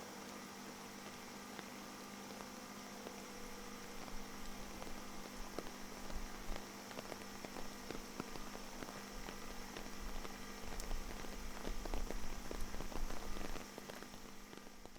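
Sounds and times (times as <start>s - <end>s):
raindrops pattering on umbrella: 2.3s - 14.9s.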